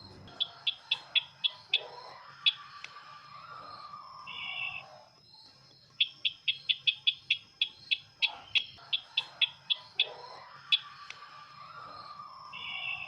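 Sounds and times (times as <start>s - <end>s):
faint high insect-like tone: 0.0s - 13.0s.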